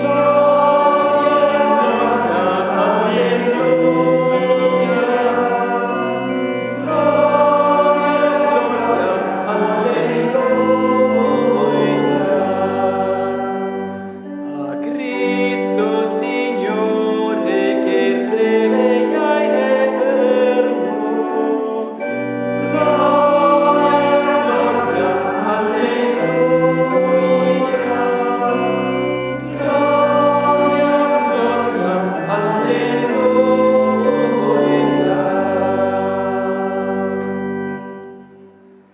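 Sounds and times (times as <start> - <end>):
choir singing a hymn: 0.0 - 38.8
organ: 0.0 - 38.9.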